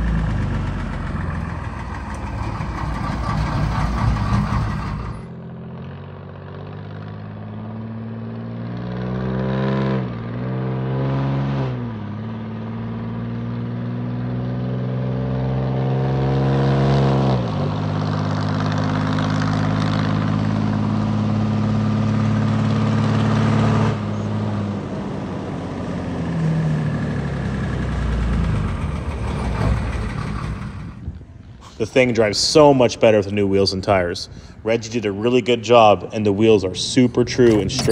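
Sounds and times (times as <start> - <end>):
diesel truck engine accelerating: 0.0 - 37.9.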